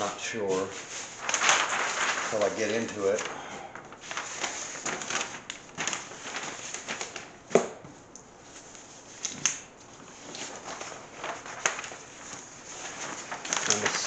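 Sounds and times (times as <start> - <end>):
paper flapping: 0.0 - 7.8, 8.7 - 14.0
paper sheets rustling: 0.0 - 14.0.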